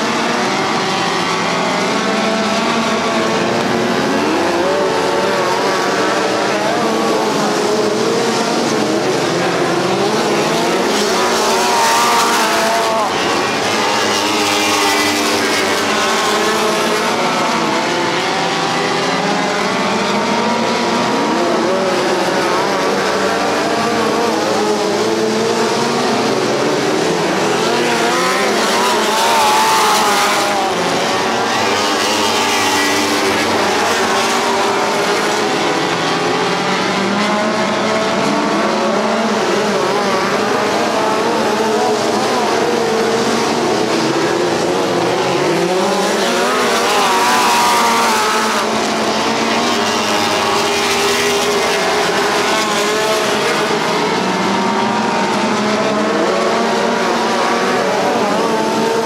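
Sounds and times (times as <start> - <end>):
race car engines running hard: 0.0 - 59.0.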